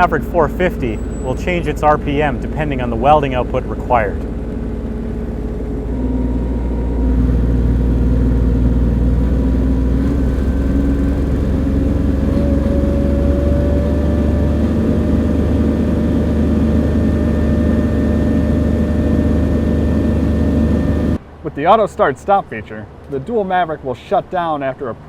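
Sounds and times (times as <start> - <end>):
diesel engine running: 0.0 - 21.2.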